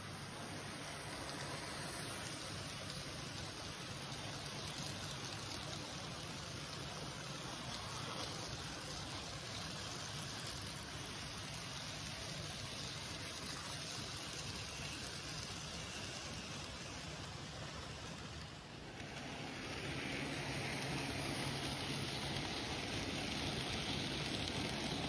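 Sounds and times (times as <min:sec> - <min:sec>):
model train wagons rattling: 0:00.0 - 0:25.0.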